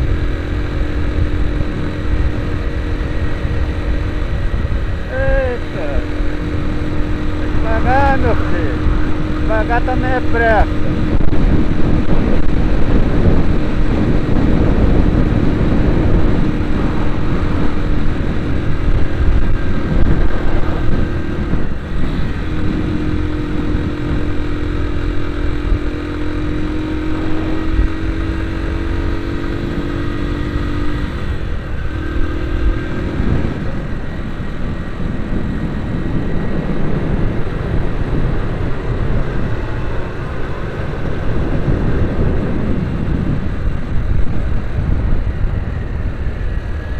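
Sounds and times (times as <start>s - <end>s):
heavy low rumble: 0.0s - 46.9s
vehicle engine running: 0.0s - 46.9s.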